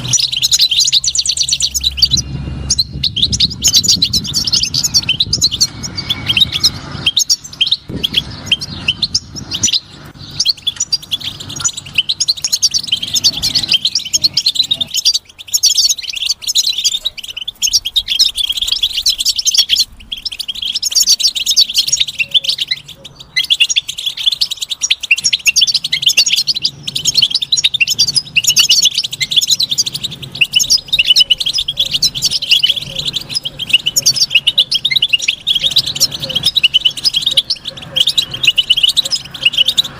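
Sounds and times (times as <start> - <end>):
finch twittering song: 0.0 - 39.9.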